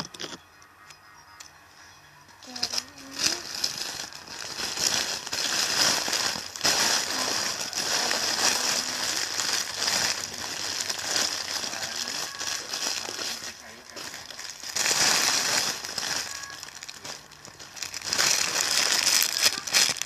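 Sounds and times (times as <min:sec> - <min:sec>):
plastic crinkling: 0:02.4 - 0:20.0.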